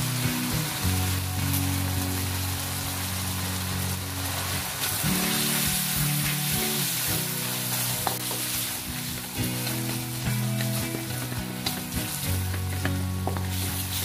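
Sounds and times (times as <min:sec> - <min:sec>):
background music of low notes: 0:00.0 - 0:14.0
chicken frying in a wok: 0:00.0 - 0:14.0.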